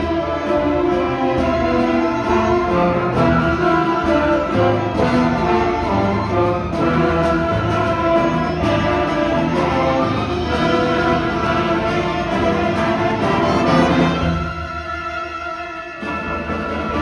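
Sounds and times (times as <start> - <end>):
string orchestra playing: 0.0 - 17.0.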